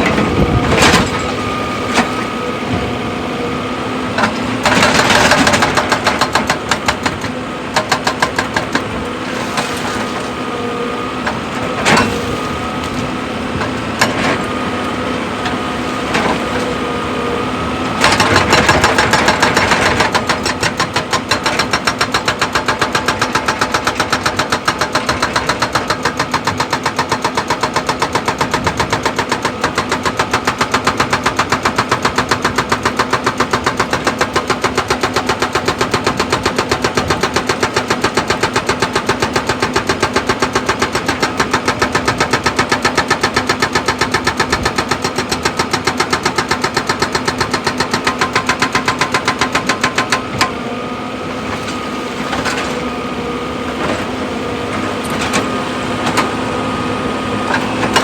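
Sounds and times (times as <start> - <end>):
diesel engine knocking rhythmically: 0.0 - 9.7, 10.3 - 51.1, 52.3 - 58.0.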